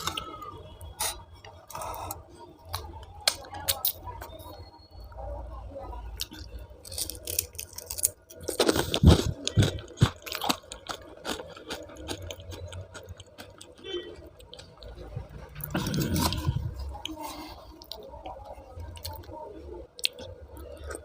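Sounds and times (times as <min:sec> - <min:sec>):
chewing and crunching food: 0:00.0 - 0:04.6, 0:06.1 - 0:21.0.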